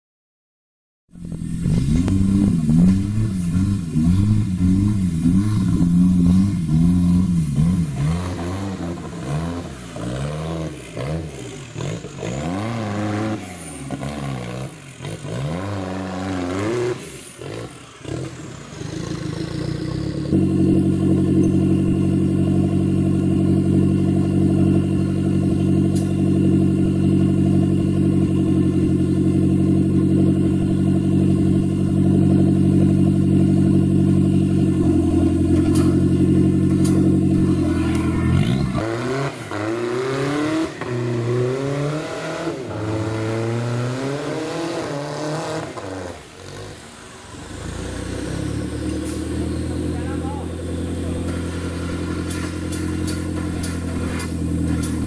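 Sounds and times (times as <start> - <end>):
off-road vehicle engine revving: 1.1 - 55.0.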